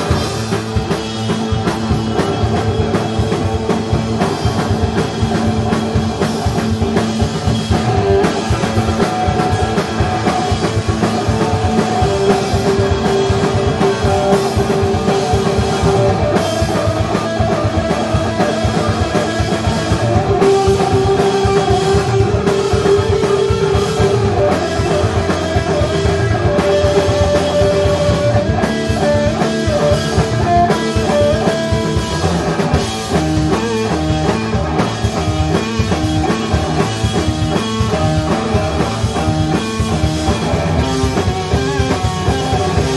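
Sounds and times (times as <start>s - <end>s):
busy drum kit: 0.0s - 42.9s
electric guitar sustained notes: 0.0s - 42.9s.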